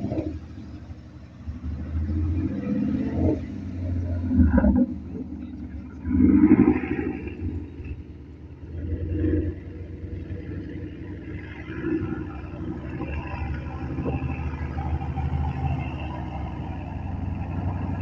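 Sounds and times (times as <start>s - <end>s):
car engines rumbling: 0.0s - 18.0s.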